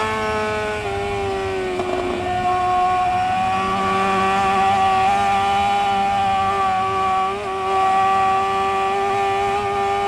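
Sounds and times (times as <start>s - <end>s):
motorcycle engine at high revs: 0.0s - 10.0s.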